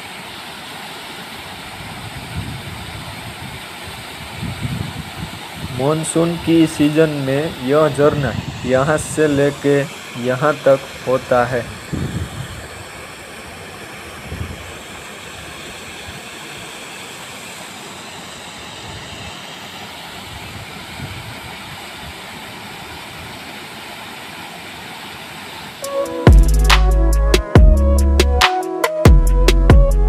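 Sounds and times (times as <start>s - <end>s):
waterfall rushing into pool: 0.0s - 26.2s.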